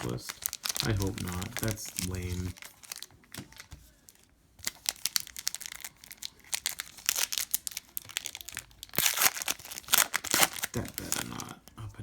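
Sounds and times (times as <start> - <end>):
cards being handled: 0.0 - 5.2, 6.5 - 11.5
wrapper crinkling and tearing: 0.0 - 11.6.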